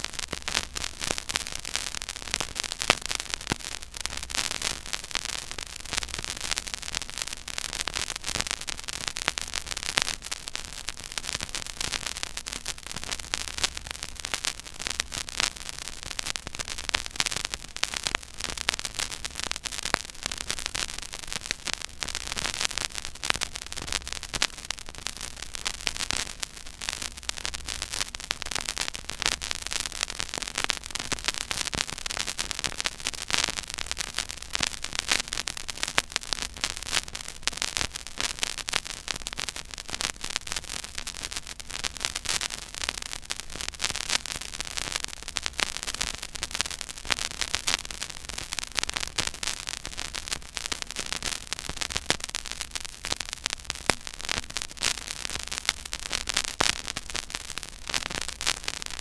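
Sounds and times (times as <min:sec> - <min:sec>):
vinyl crackle and pops: 0:00.0 - 0:59.0.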